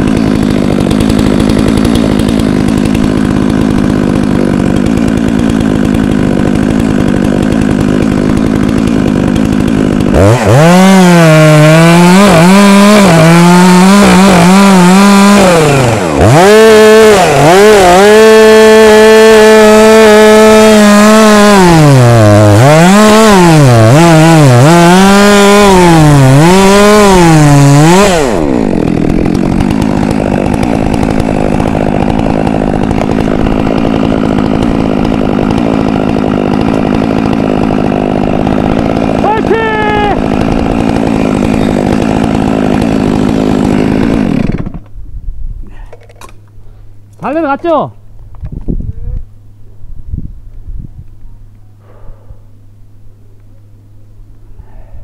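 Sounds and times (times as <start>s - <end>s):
chainsaw idling and cutting wood: 0.0s - 45.0s, 45.7s - 47.9s, 51.8s - 55.0s.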